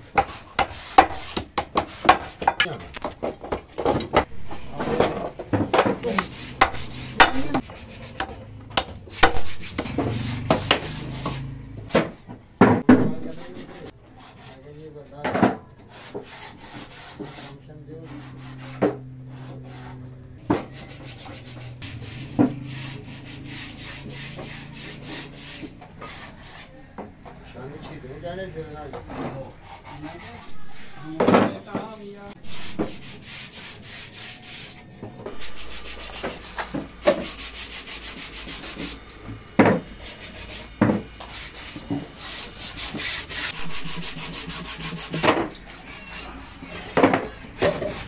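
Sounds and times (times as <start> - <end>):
sandpaper scraping wood: 0.2 - 2.4, 4.3 - 12.2, 13.1 - 15.0, 15.8 - 26.9, 29.1 - 48.0.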